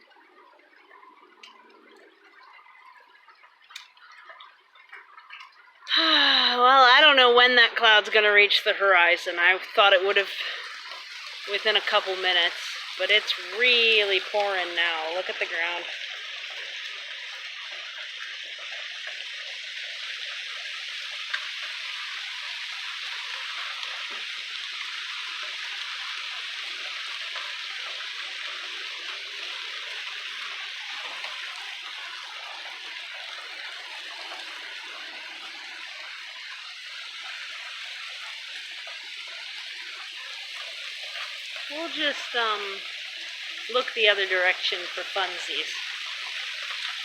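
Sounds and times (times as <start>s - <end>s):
heavy rain pouring: 0.0s - 47.0s.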